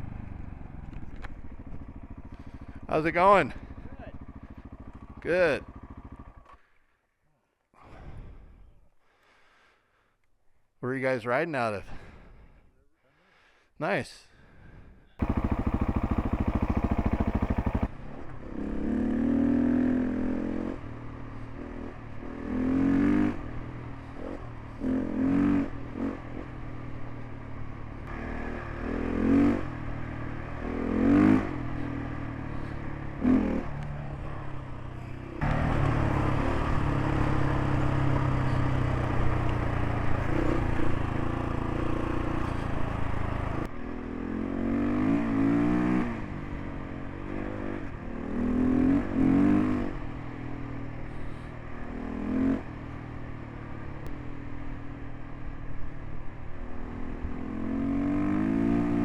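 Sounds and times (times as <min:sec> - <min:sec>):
motorcycle engine revving: 0:00.0 - 0:06.5, 0:15.2 - 0:55.2, 0:56.6 - 0:59.0.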